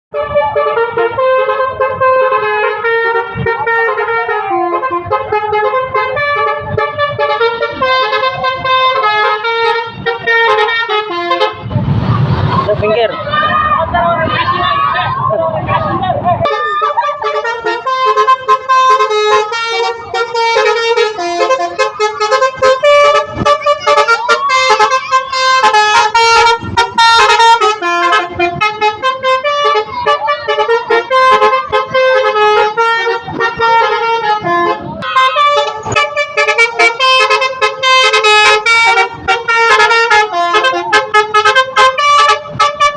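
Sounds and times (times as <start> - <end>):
multi-tone musical air horn: 0.1 - 11.8, 16.4 - 42.9.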